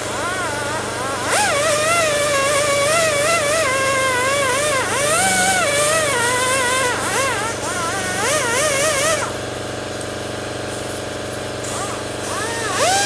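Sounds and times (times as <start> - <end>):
power tool motor whining: 0.0 - 9.6, 11.6 - 13.0.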